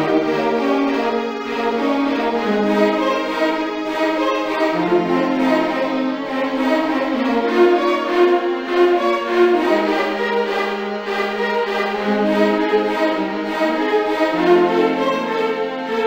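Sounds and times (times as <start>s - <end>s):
bowed strings playing sustained notes: 0.0s - 16.0s.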